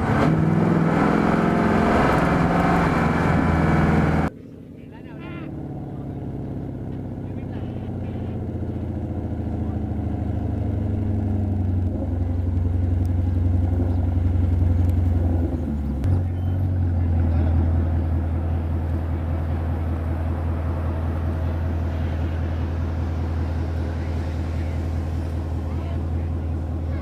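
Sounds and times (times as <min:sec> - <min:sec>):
car engine running: 0:00.0 - 0:27.0
engine blip: 0:00.0 - 0:27.0.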